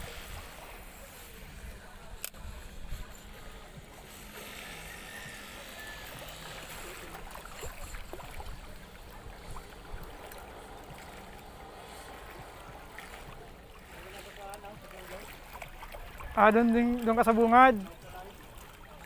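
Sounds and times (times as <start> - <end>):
waves lapping against rocks: 0.0 - 19.0.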